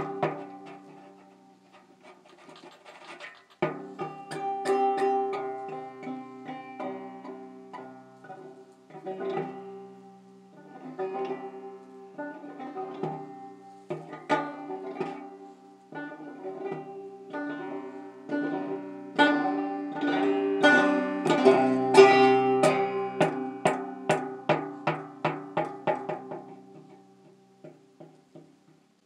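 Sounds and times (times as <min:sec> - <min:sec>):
banjo being picked: 0:00.0 - 0:28.9.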